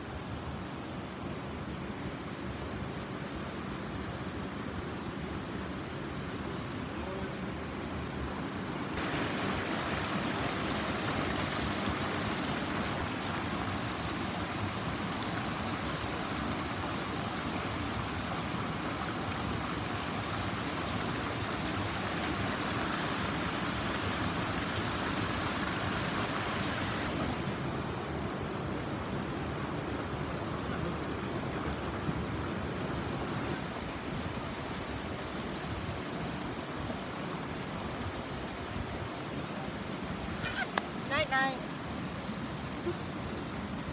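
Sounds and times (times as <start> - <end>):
creek rushing over rocks: 0.2 - 43.9.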